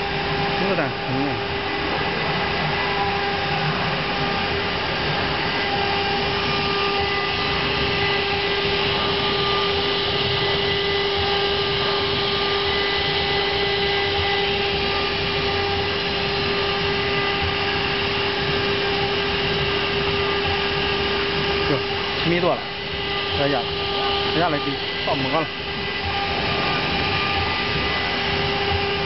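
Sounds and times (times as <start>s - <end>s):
cnc router spindles whining: 0.0s - 29.0s
router cutting wooden board: 0.0s - 29.0s.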